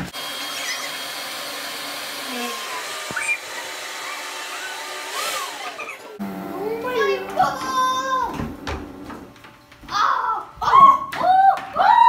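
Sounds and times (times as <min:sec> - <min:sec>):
electric blower running: 0:00.0 - 0:09.8.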